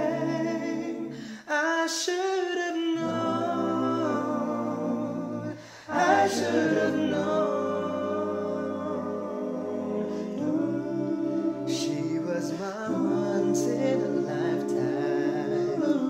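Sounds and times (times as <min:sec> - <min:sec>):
man singing a cappella chords: 0:00.0 - 0:09.0, 0:10.1 - 0:16.0.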